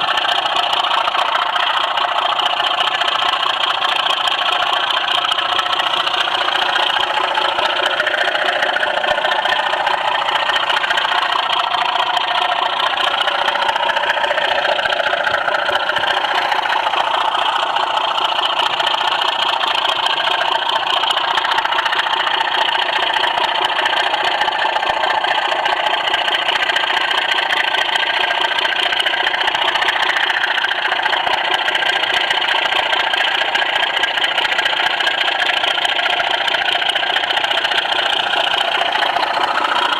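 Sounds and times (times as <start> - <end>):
model train motor hum: 0.0 - 39.9
wheels on rails: 0.0 - 39.9.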